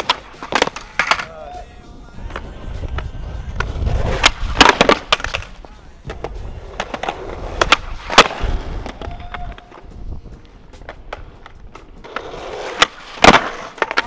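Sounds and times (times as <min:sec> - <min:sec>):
skateboard wheels rolling on concrete: 0:00.0 - 0:14.0
skateboard wooden clacks: 0:02.2 - 0:14.0.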